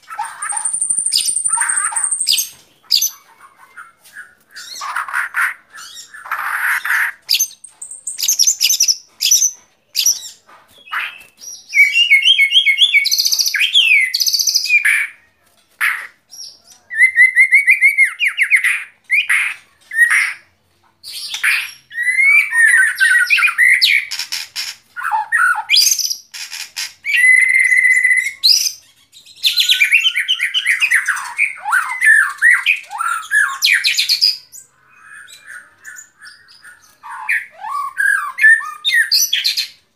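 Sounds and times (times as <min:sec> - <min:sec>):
bird singing whistles and trills: 0:00.1 - 0:05.1, 0:05.7 - 0:15.2, 0:16.4 - 0:20.4, 0:21.1 - 0:24.2, 0:27.1 - 0:39.8.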